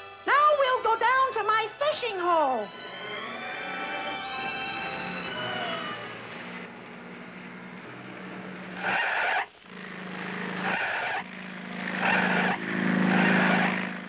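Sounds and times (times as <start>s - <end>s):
cartoon jeep engine buzz: 2.7s - 14.0s.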